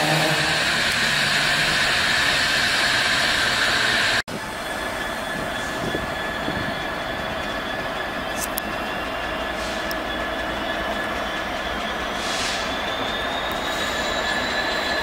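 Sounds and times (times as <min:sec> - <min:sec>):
diesel train rumbling past: 0:00.0 - 0:15.0
train wheels squealing: 0:00.0 - 0:15.0.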